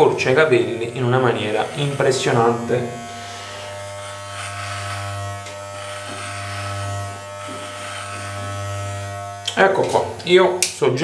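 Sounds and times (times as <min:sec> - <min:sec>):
electric hair clipper buzzing: 0:00.0 - 0:11.0.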